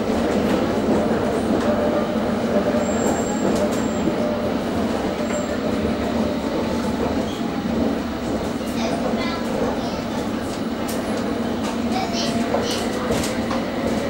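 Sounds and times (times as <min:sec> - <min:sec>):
train running noise inside carriage: 0:00.0 - 0:14.0.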